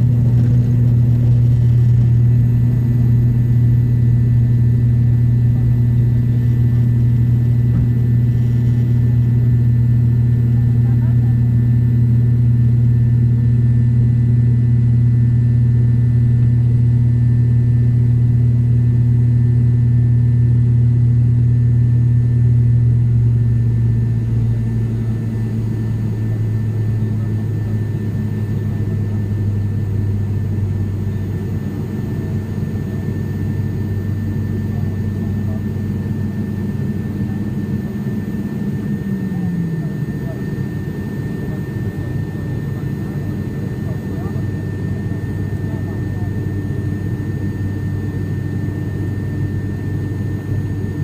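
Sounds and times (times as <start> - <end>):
airplane engine and propeller drone: 0.0 - 51.0.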